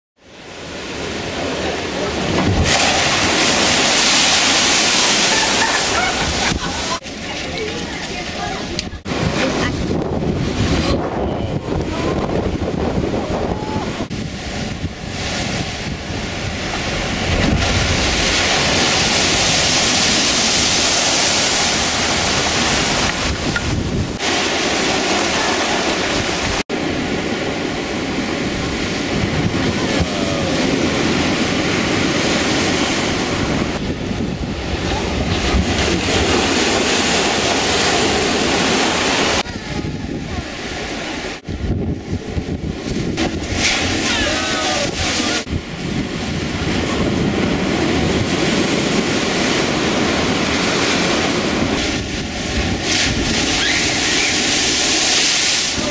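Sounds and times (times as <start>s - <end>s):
waves breaking against stone wall: 0.4s - 55.9s
wind buffeting microphone: 0.6s - 55.9s.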